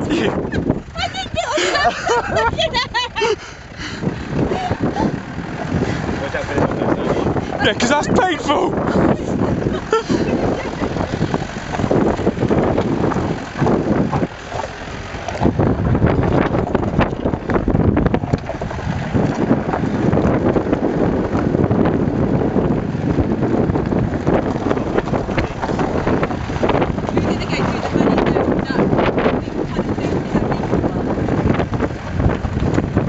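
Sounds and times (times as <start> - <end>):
diesel vehicle driving on rough track: 0.0 - 33.0
wind buffeting microphone: 0.0 - 33.0.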